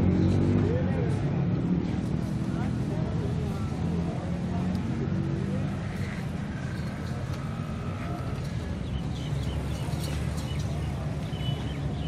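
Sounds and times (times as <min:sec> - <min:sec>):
faint street noise: 0:00.0 - 0:12.0.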